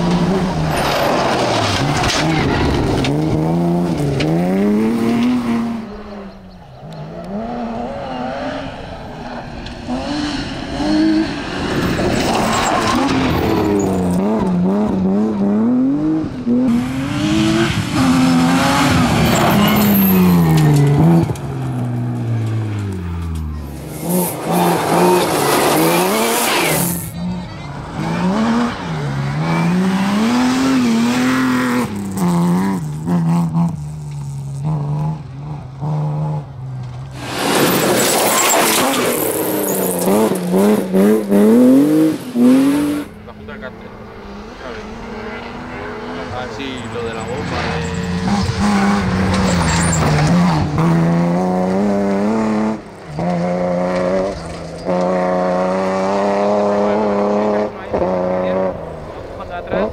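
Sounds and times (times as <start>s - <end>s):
gravel and tyres sliding: 0.0s - 15.0s, 16.7s - 35.7s, 36.3s - 55.2s
rally car engine revving: 0.0s - 59.9s.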